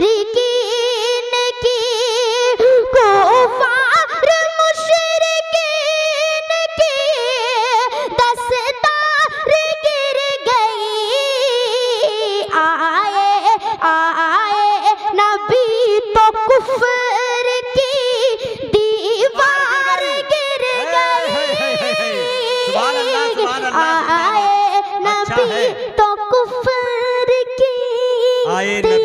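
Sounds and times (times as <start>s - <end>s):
boy singing into a microphone: 0.0s - 29.0s.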